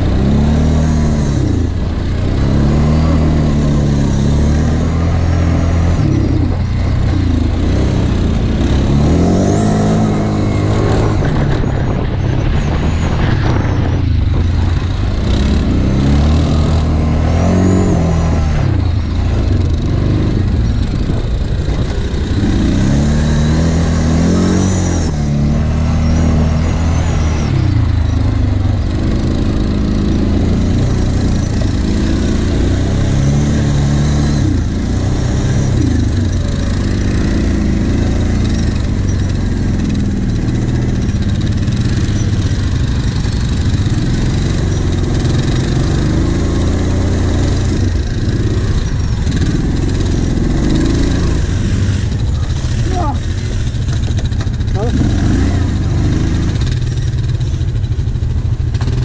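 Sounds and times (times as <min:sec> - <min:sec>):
atv engine revving under load: 0:00.0 - 0:59.0.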